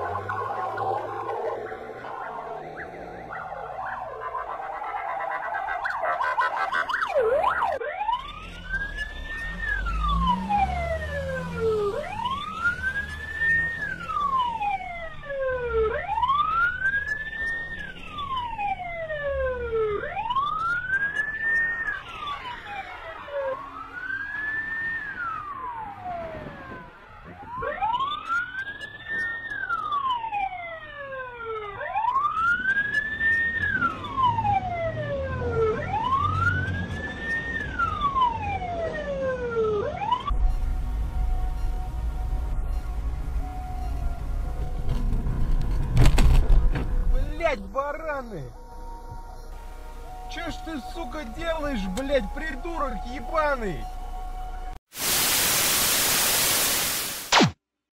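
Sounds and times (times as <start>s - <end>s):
police siren wailing: 0.0s - 54.8s.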